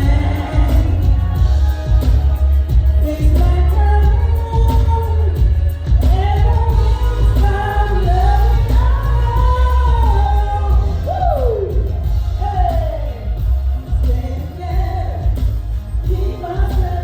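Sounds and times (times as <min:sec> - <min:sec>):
heavy bass: 0:00.0 - 0:17.0.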